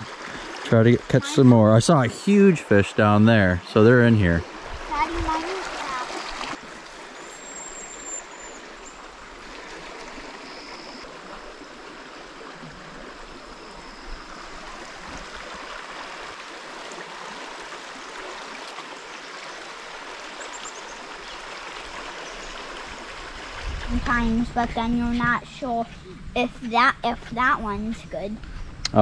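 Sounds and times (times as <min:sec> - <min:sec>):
stream babbling: 0:00.0 - 0:28.2.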